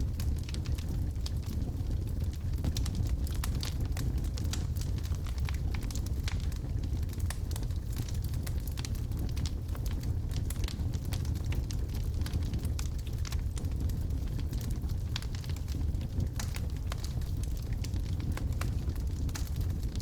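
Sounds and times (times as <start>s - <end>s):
logs burning with crackles and pops: 0.0s - 20.0s.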